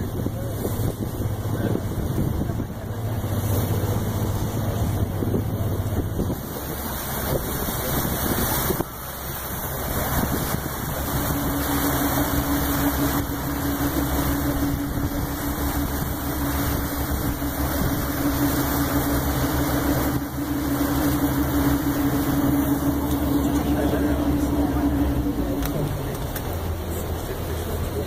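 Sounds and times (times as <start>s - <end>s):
boat engine rumble: 0.0s - 28.0s
steady hum: 0.0s - 28.0s.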